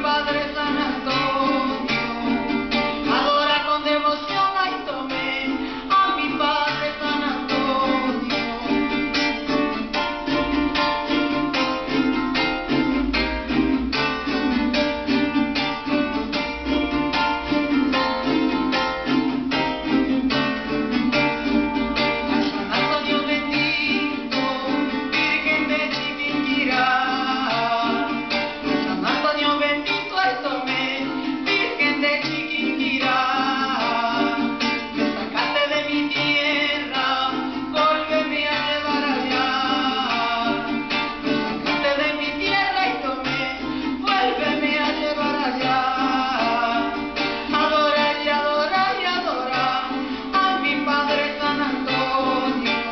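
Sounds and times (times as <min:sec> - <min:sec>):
woman singing: 0:00.0 - 0:12.4, 0:21.2 - 0:52.9
strummed string instrument: 0:00.0 - 0:52.9.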